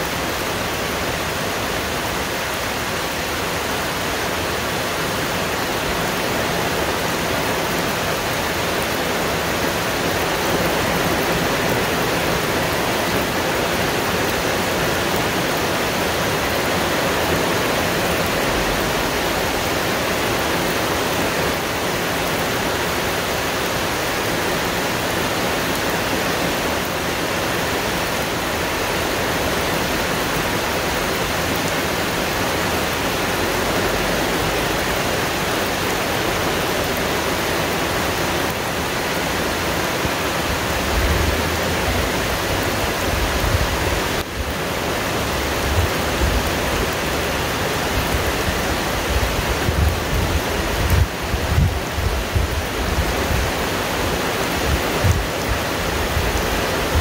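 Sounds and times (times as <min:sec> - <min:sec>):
heavy rain on foliage: 0:00.0 - 0:57.0.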